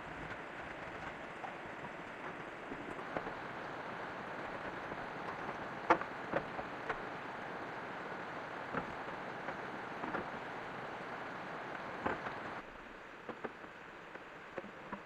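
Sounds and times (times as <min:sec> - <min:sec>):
rain hiss: 0:01.1 - 0:15.0.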